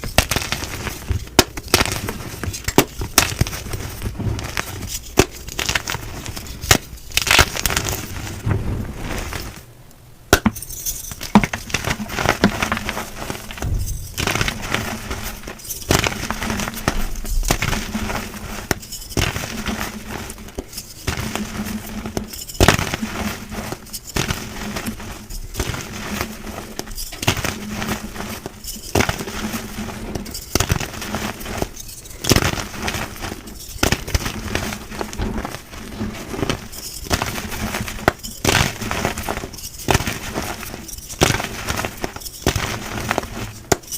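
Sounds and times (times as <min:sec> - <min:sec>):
chalk crunching and crumbling: 0:00.0 - 0:09.7, 0:10.4 - 0:43.9.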